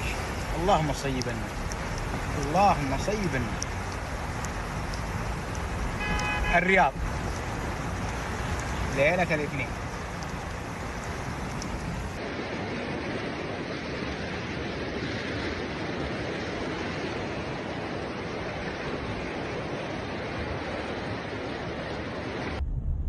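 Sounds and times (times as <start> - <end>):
flowing floodwater: 0.0 - 22.6
heavy rain: 0.0 - 22.6.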